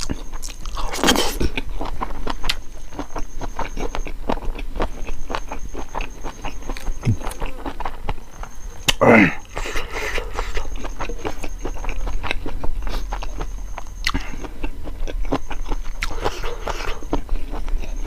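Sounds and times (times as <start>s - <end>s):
wet chewing mouth sounds: 0.0s - 18.0s.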